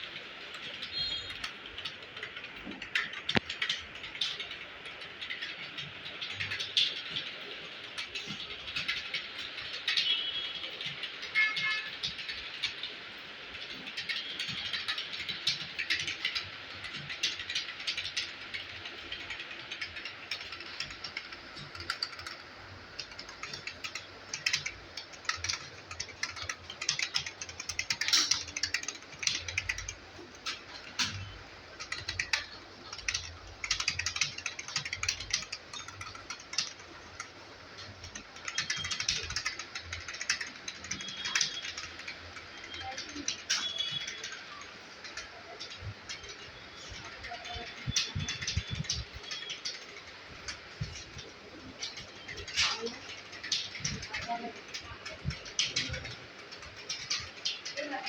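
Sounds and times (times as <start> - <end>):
computer keyboard typing: 0.0 - 58.0.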